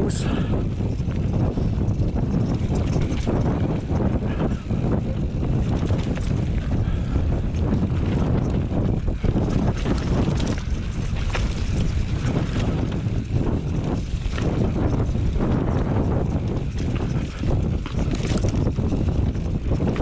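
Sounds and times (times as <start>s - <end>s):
bike tyres on dirt: 0.0s - 20.0s
wind buffeting microphone: 0.0s - 20.0s
bike rattles and knocks: 0.1s - 20.0s.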